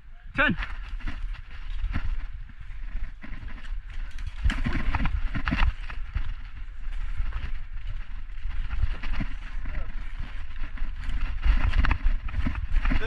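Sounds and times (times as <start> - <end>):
running footsteps on ground: 0.3 - 13.0.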